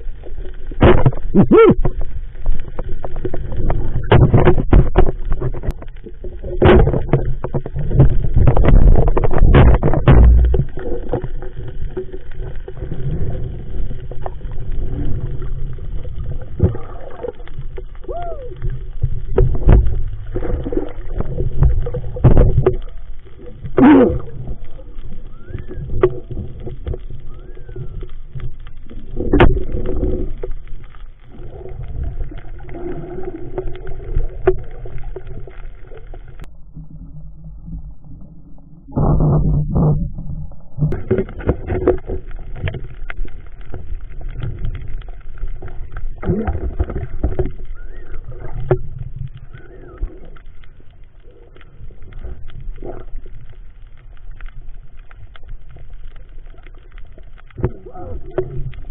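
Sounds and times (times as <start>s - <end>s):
dull underwater rumble: 0.0s - 58.9s
underwater sloshing and gurgling: 0.0s - 58.9s.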